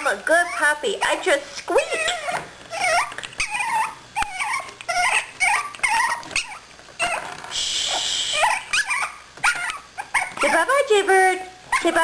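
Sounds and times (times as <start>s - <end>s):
puppy whimpering: 0.3s - 10.8s, 11.6s - 12.0s.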